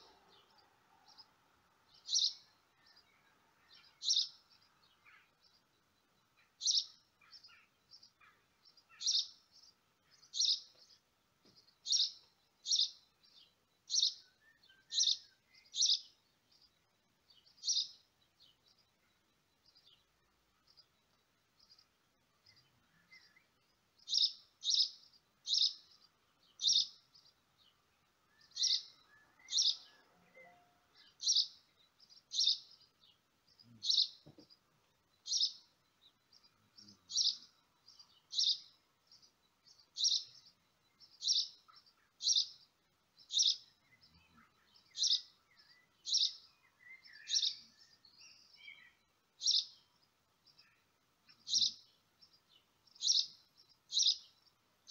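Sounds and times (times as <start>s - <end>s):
small bird chirping: 0.0s - 54.9s.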